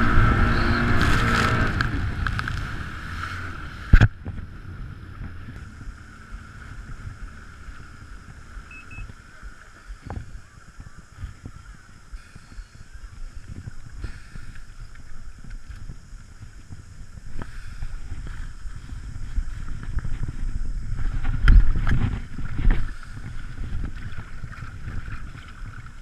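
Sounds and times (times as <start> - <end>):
jet ski engine low rumble: 0.0 - 26.0.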